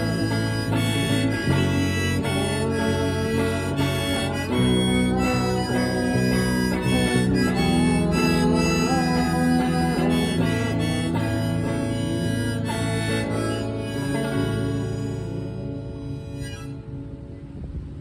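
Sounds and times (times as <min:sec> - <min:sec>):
harmonica bending notes: 0:00.0 - 0:17.4
strummed guitar: 0:00.0 - 0:18.0.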